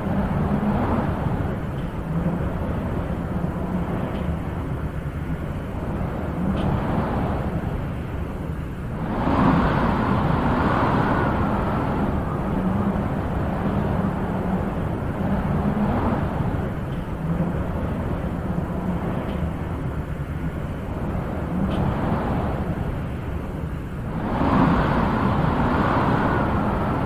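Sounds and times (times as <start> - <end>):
wind blowing in gusts: 0.0 - 27.0.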